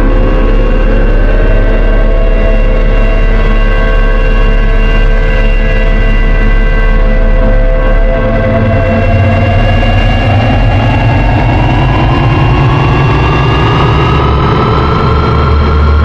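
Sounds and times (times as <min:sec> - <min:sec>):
low engine rumble with reverb: 0:00.0 - 0:16.0
rising whine: 0:00.0 - 0:16.0.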